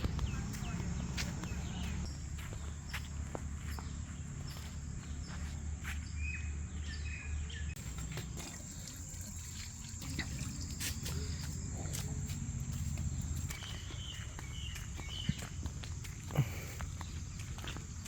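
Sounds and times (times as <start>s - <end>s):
footsteps on a path: 0.0s - 6.4s, 7.8s - 18.0s.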